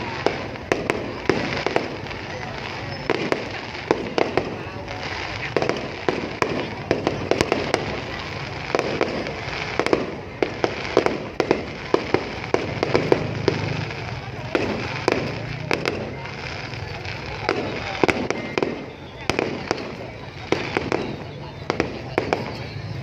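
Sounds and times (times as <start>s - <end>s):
fireworks bursting with sharp bangs: 0.0s - 23.0s
rumbling crackling haze: 0.0s - 23.0s.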